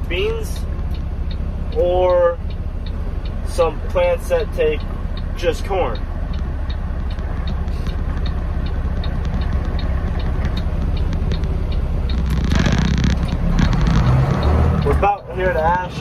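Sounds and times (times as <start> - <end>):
faint regular ticking: 0.0 - 16.0
truck engine and road noise: 0.0 - 16.0.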